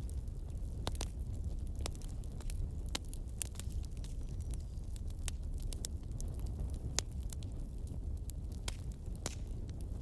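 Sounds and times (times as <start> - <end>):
wood fire crackling and popping: 0.0 - 10.0.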